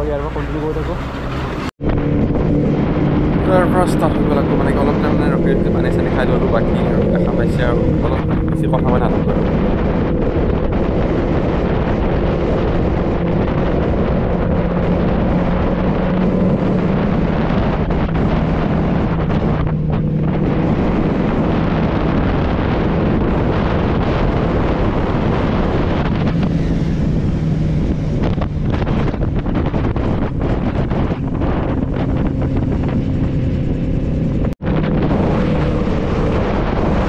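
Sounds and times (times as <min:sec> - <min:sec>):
motorcycle engine cruising: 0:00.0 - 0:37.0
wind rush on microphone: 0:00.0 - 0:37.0.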